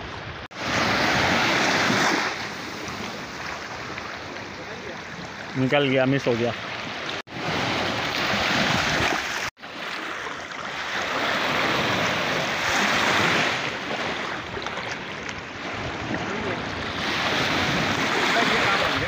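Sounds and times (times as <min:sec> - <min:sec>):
small waves breaking around rocks: 0:00.0 - 0:19.0.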